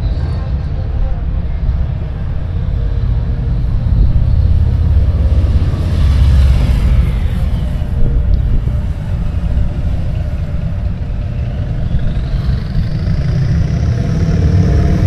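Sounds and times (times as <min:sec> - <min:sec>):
motorcycle engine rumbling: 0:00.0 - 0:15.0
thin rising whine: 0:00.0 - 0:15.0.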